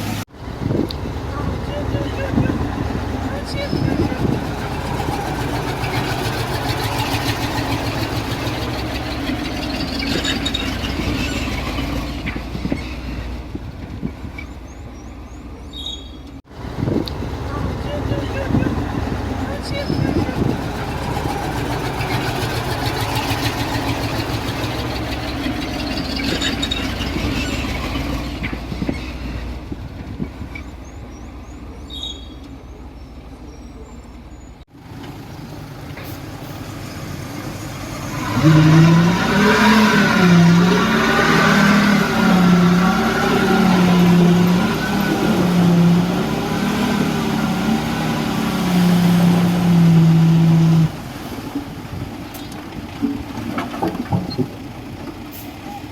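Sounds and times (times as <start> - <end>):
diesel engine running: 0.0 - 55.9
engine working under load: 0.0 - 55.9.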